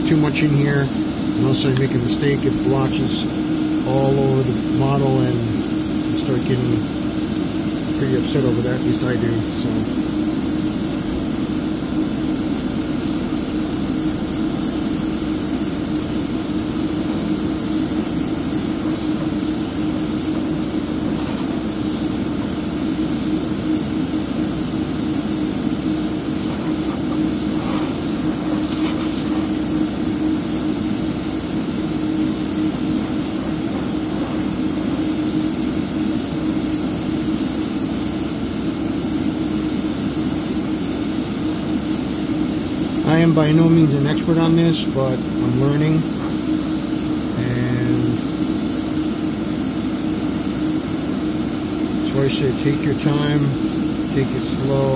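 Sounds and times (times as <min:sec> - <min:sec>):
airbrush spraying paint: 0:00.0 - 0:54.9.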